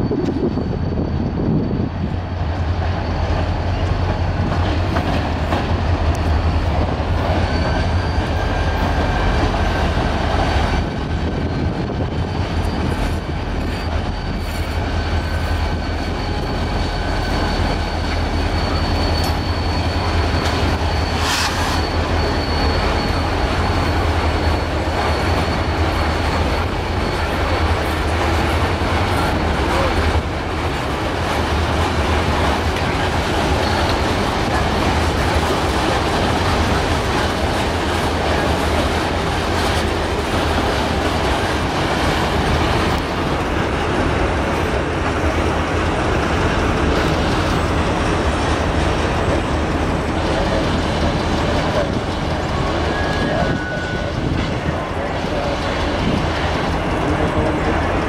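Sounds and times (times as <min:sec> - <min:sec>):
diesel locomotive engine rumble: 0:00.0 - 0:58.0
faint high wheel squeal: 0:00.0 - 0:58.0.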